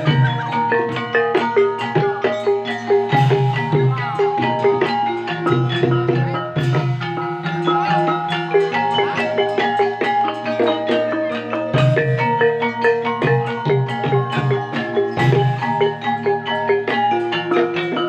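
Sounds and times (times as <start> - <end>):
drums: 0.0 - 18.0
mallet-struck keyed instruments: 0.0 - 18.0.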